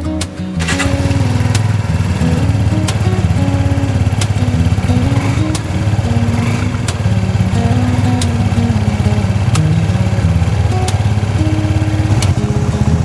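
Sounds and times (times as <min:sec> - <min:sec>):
small motorbike engine running: 0:00.6 - 0:13.0.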